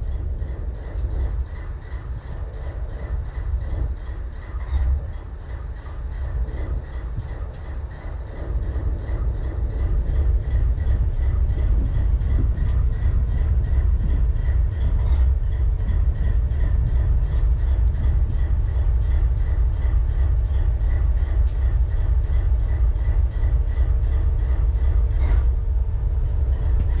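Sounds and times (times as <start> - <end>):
diesel locomotive idling: 0.0 - 27.0.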